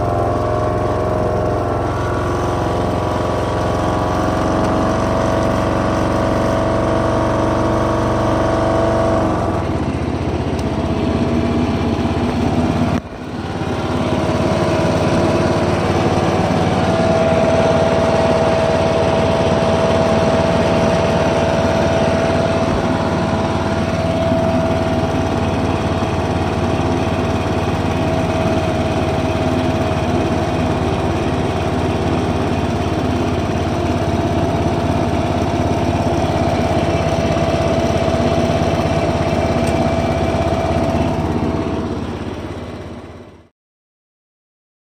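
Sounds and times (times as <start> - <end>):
ride-on mower engine running: 0.0 - 43.5.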